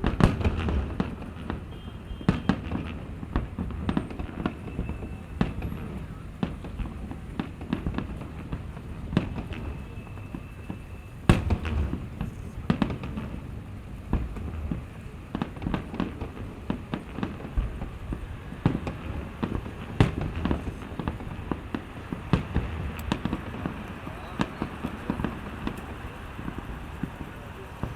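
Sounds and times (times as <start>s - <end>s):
continuous low rumble: 0.0s - 27.9s
fireworks bangs and crackles: 0.0s - 27.9s.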